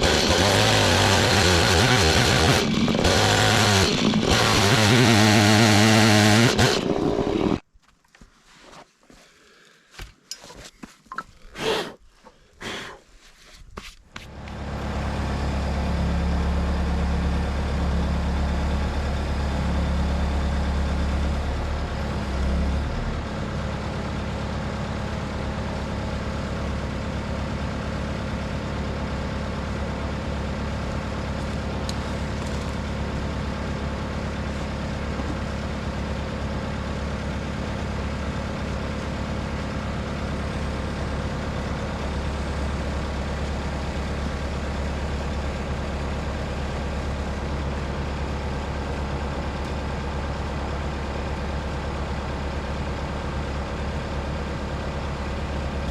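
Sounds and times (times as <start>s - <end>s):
skid steer engine humming: 0.0s - 7.6s, 14.1s - 55.9s.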